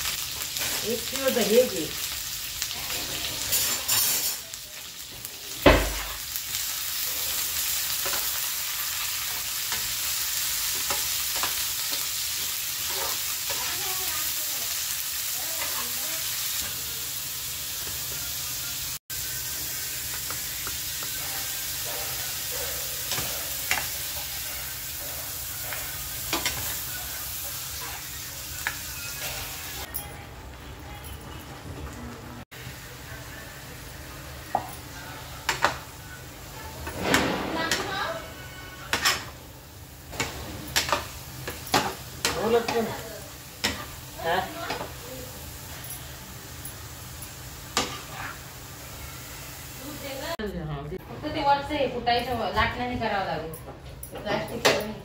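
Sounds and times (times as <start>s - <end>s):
peppers sizzling in frying pan: 0.0s - 50.6s.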